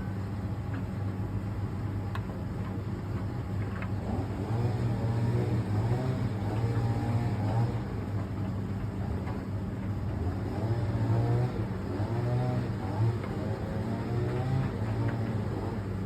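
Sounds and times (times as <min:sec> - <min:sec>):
clothes dryer motor hum: 0:00.0 - 0:16.0.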